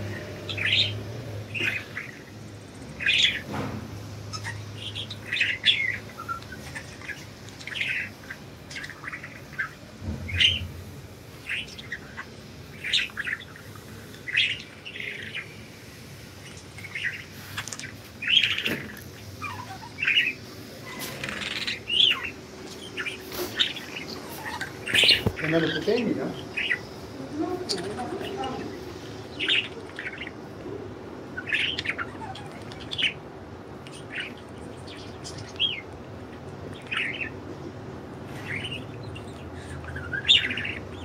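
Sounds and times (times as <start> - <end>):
budgerigars chirping: 0.0 - 3.6, 4.2 - 15.6, 16.4 - 30.6, 31.2 - 37.6, 38.2 - 41.0.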